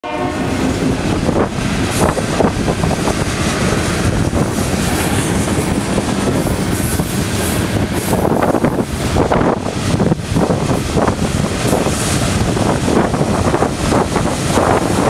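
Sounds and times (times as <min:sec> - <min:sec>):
wind buffeting microphone: 0:00.0 - 0:15.0
train wheels clattering on rails: 0:00.5 - 0:15.0.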